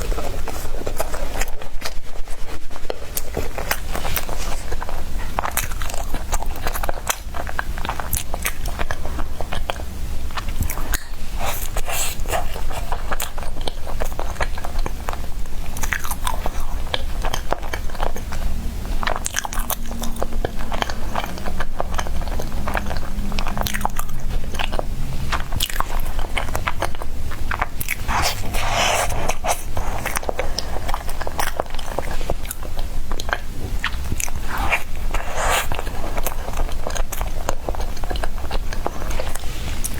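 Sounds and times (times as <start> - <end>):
chewing soft bread: 0.0 - 39.9.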